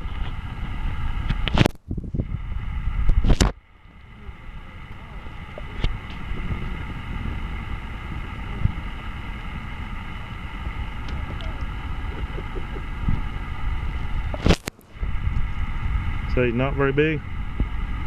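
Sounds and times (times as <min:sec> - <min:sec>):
boat motor humming: 0:00.0 - 0:18.0
wind and water rumble: 0:00.0 - 0:18.0.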